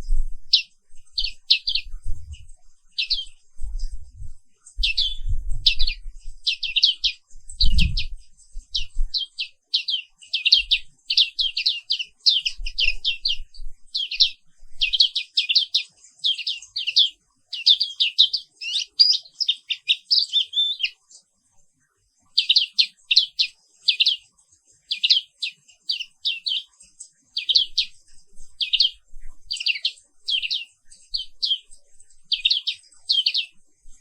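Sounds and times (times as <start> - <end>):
bird singing high chirping runs: 0.0 - 21.0, 22.4 - 34.0.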